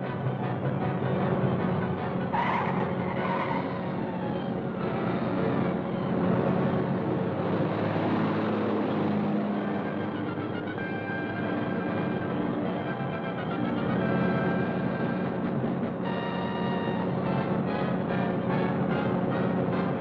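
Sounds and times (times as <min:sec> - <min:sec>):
tire squeal: 0:00.0 - 0:08.5, 0:09.3 - 0:20.0
car engine drone: 0:00.0 - 0:20.0
road noise: 0:00.0 - 0:20.0.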